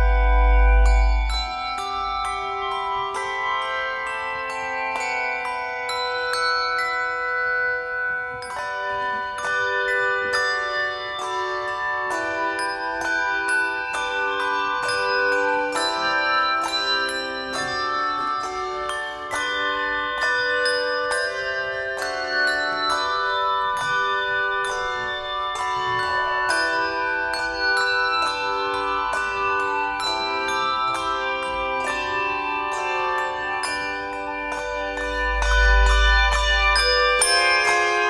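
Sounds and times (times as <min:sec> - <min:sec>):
handbell choir playing: 0:00.0 - 0:38.0.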